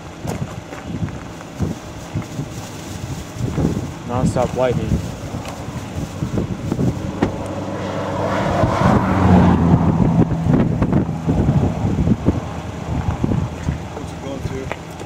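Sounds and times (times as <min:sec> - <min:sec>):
vehicle humming: 0:00.0 - 0:15.0
wind noise: 0:00.0 - 0:15.0.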